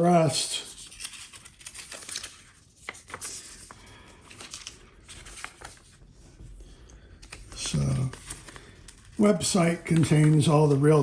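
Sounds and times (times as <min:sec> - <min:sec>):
paper and cardboard rustling: 0:00.2 - 0:11.0.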